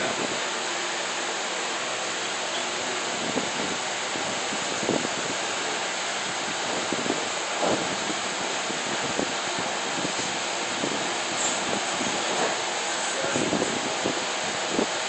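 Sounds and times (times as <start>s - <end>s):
crowded room noise: 0.0s - 15.0s.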